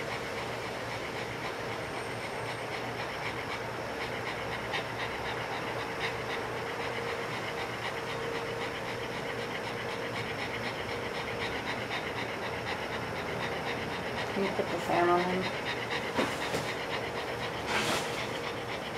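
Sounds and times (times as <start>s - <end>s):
dog panting: 0.0s - 18.9s.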